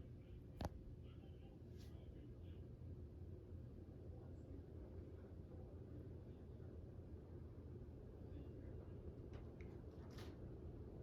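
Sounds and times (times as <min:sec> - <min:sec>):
ceiling fan whirring: 0:00.0 - 0:11.0.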